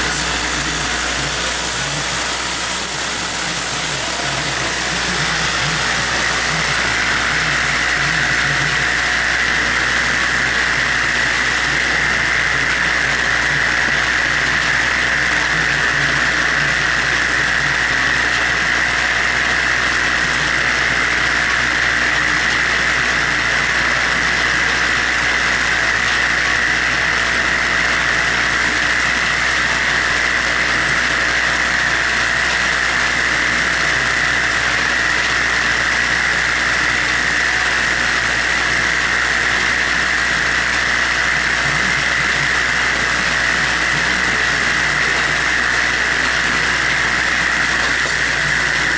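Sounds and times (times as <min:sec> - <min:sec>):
vibratory drive hum: 0:00.0 - 0:48.9.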